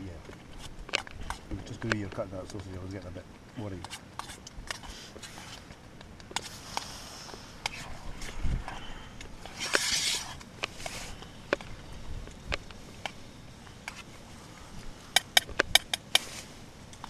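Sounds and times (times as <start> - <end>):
rustle: 0.0 - 17.0.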